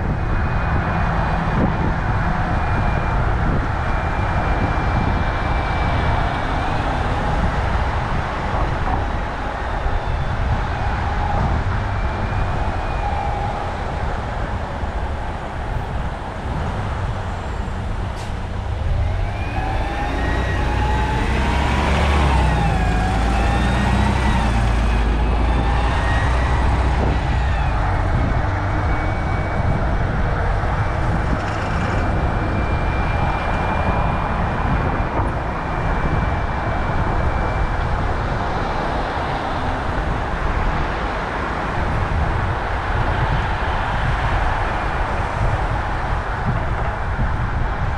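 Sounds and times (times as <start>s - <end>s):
emergency vehicle siren: 0.0s - 47.9s
road traffic: 0.0s - 47.9s
wind on microphone: 0.0s - 47.9s.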